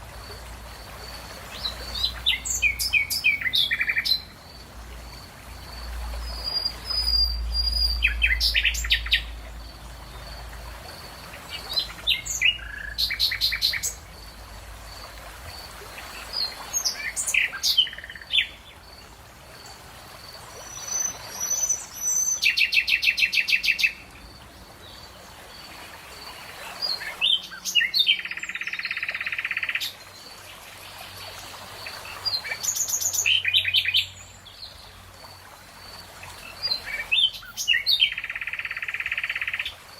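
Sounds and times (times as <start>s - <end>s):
songbirds singing: 0.2s - 39.8s.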